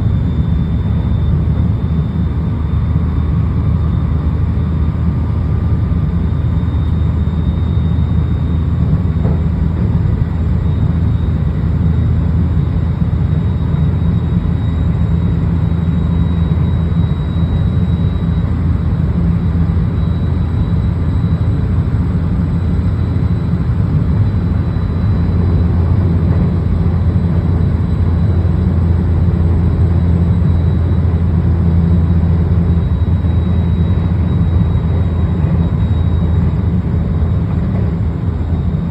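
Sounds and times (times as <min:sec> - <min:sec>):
high motor whine: 0:00.0 - 0:38.9.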